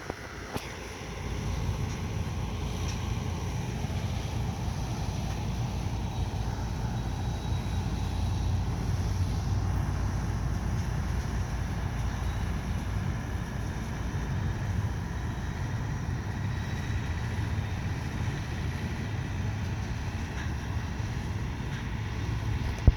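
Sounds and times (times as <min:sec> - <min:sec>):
train rumbling by: 0:00.0 - 0:22.9.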